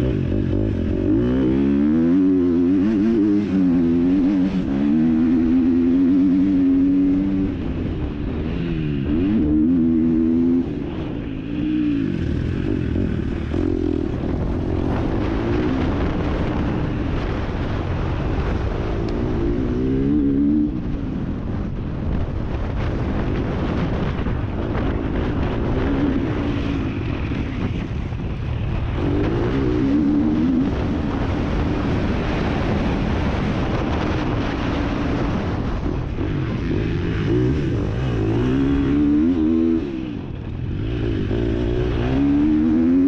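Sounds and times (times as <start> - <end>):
motocross bike engine revving: 0.0 - 20.9, 28.9 - 43.0.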